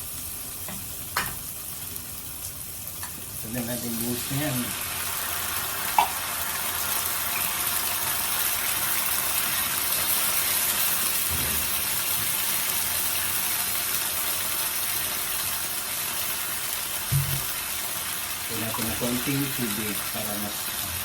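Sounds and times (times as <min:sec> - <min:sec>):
fish sizzling in a frying pan: 0:00.0 - 0:21.0.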